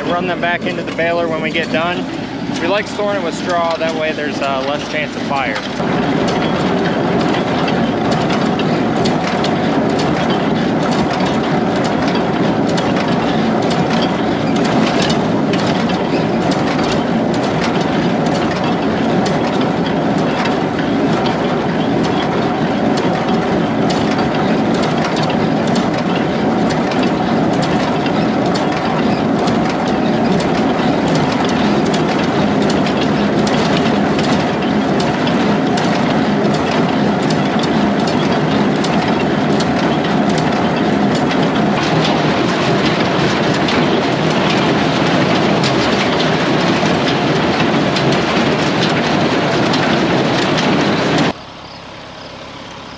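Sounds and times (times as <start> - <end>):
baler clicking: 0.0 - 51.4
hay baler mechanical clatter: 0.0 - 52.9
tractor engine running: 0.0 - 52.9.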